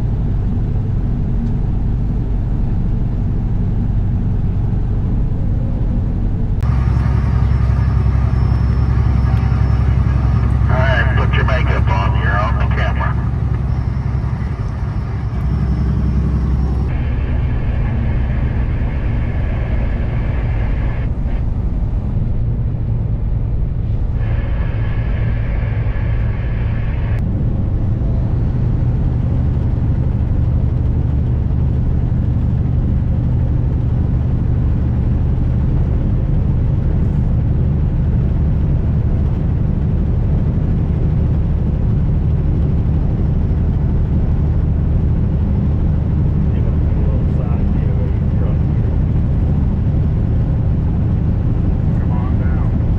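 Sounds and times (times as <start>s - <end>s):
diesel truck engine drone: 0.0s - 52.9s
road or wind noise: 0.0s - 52.9s.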